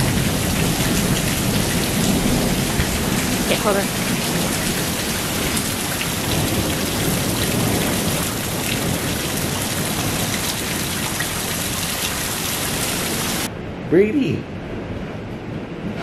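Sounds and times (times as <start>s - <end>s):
steady rain pouring: 0.0s - 13.5s
thunder rumbling: 0.0s - 16.0s.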